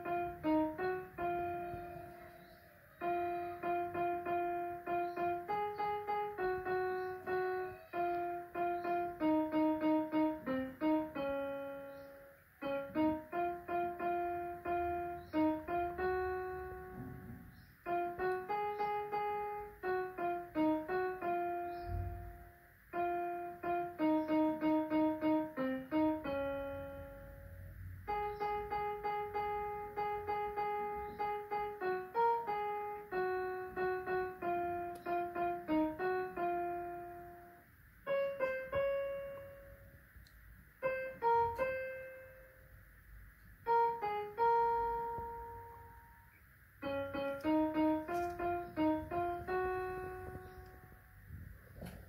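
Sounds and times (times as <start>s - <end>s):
electronic keyboard piano melody: 0.0s - 52.0s.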